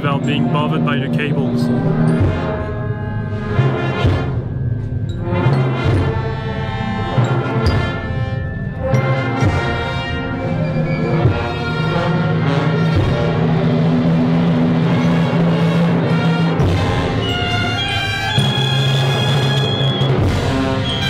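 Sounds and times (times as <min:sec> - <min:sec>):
brass band playing a funeral march: 0:00.0 - 0:21.0.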